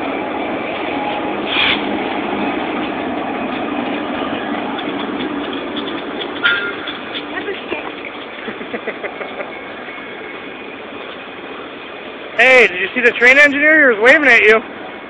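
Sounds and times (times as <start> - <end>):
container cars rolling past: 0.0 - 15.0
diesel locomotives rumbling past: 0.0 - 15.0.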